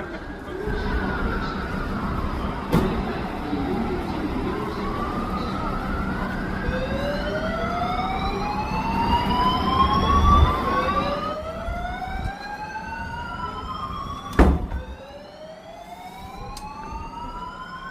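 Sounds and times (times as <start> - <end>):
truck engine rumbling: 0.0 - 15.6
fire engine siren wailing: 0.0 - 17.9.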